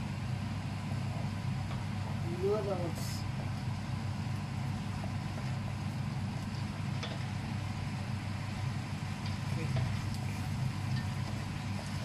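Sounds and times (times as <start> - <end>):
cooker rumble: 0.0 - 12.0.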